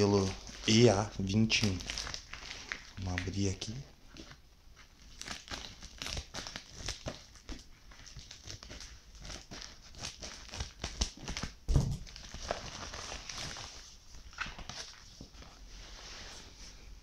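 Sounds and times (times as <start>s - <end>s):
plastic crinkling: 0.0s - 15.6s.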